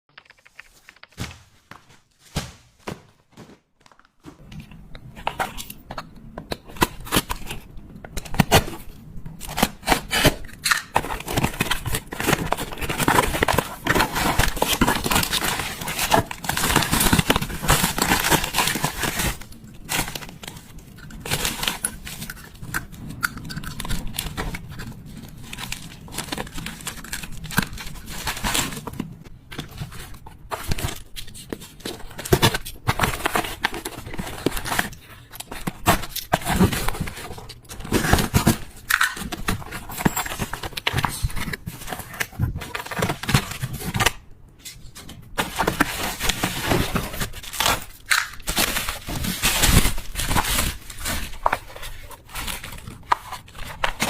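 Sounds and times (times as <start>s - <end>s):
wrapping tearing and crinkling: 9.4s - 54.0s.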